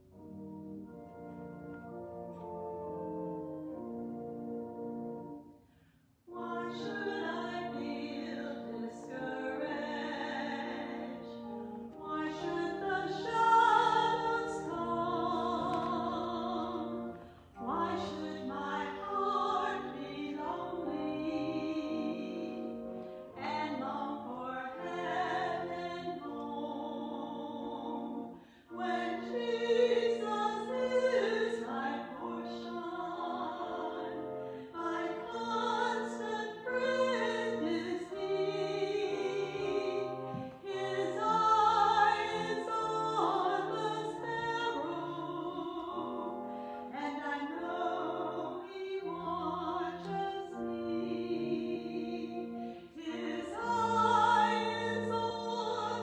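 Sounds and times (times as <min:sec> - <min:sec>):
church organ: 0:00.0 - 0:56.0
women singing a hymn: 0:06.3 - 0:56.0.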